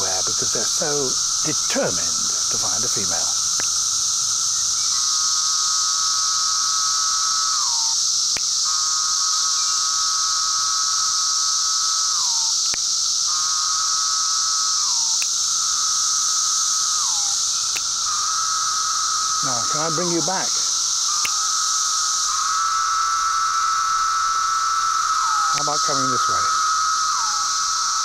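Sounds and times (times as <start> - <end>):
chorus of cicadas: 0.0 - 28.0
cicada buzzing song: 0.0 - 28.0.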